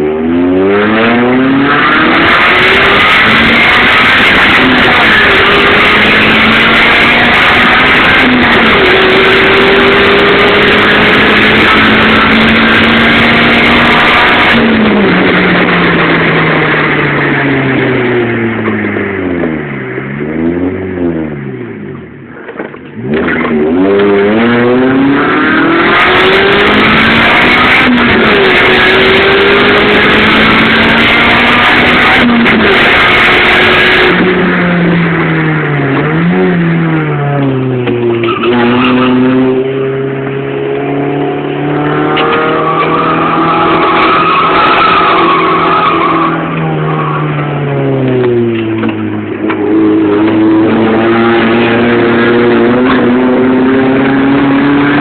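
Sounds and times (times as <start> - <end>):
loud car engine revving: 0.0 - 55.0.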